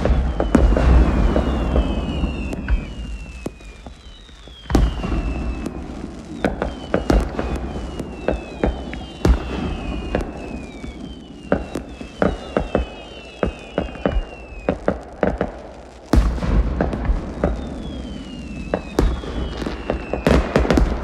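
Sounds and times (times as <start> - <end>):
rocket whistles: 0.0 - 15.5, 16.2 - 21.0
fireworks bangs and pops: 0.0 - 21.0.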